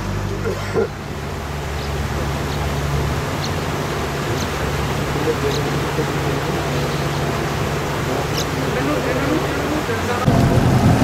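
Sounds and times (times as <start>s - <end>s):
boat motor humming: 0.0s - 11.0s
water rushing along hull: 0.0s - 11.0s.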